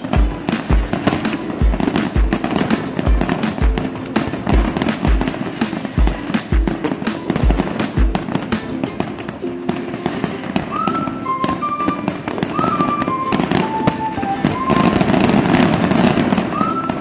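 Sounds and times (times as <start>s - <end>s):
fireworks bursting and crackling: 0.0s - 17.0s
music with held notes: 0.0s - 17.0s.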